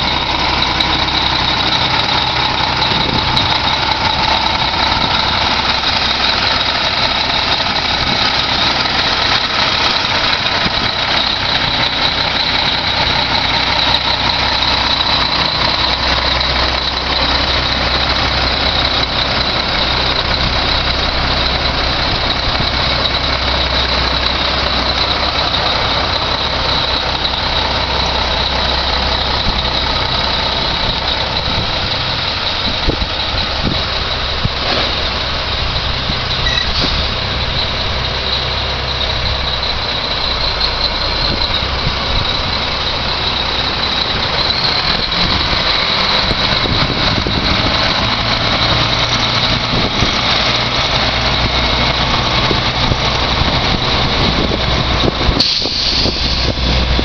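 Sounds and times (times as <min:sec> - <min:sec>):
diesel truck engine driving past: 0:00.0 - 0:57.0.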